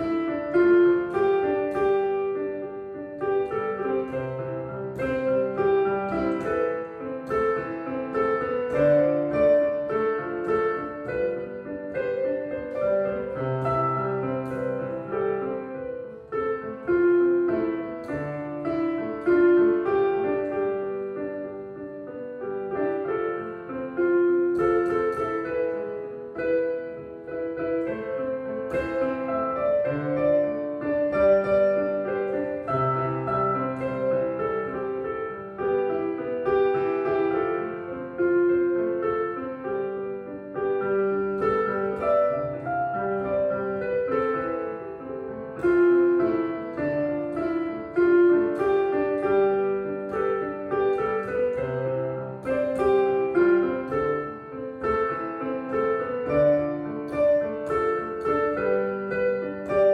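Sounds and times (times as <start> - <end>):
piano melody: 0.0 - 59.9.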